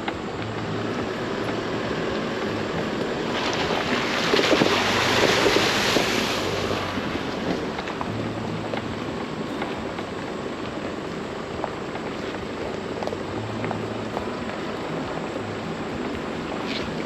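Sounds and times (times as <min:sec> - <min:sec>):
hissing crackling noise: 0:00.0 - 0:17.0
pickup engine hum: 0:00.0 - 0:17.0
tyre and road noise: 0:00.0 - 0:17.0.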